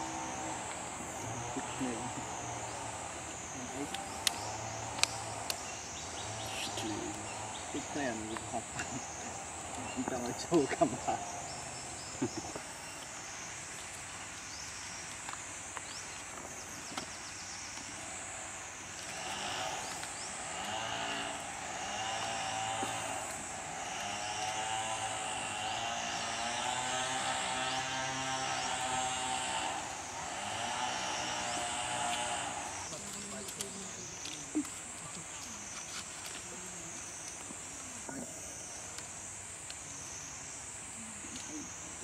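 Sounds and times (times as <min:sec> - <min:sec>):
engine hum: 0:00.0 - 0:38.3
high insect drone: 0:00.0 - 0:42.0.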